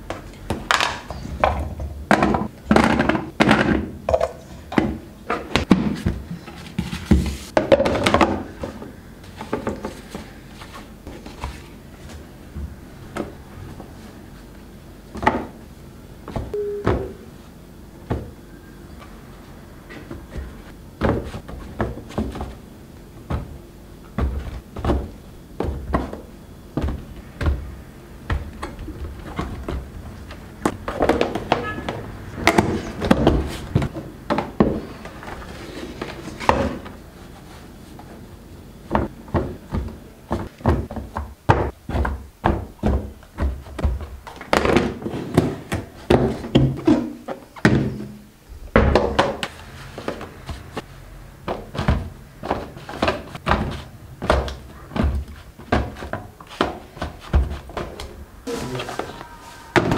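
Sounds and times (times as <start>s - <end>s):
kitchen items thunking and tapping: 0.0s - 13.8s, 16.3s - 17.2s, 23.2s - 37.0s, 38.8s - 58.3s.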